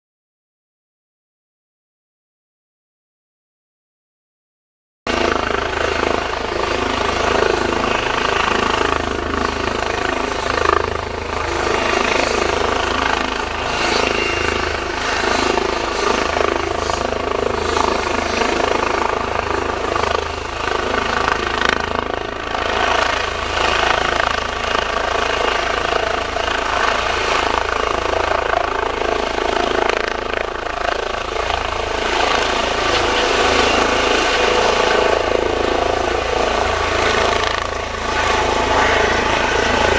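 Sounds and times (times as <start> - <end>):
helicopter rotor and turbine noise: 5.1 - 39.9
high turbine whine: 5.1 - 39.9.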